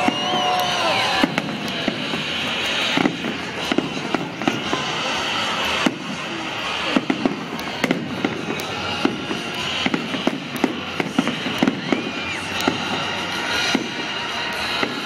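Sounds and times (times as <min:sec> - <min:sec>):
dense fireworks crackle: 0:00.0 - 0:15.0
fireworks bangs: 0:00.0 - 0:15.0
sliding firework whistle: 0:00.0 - 0:15.0.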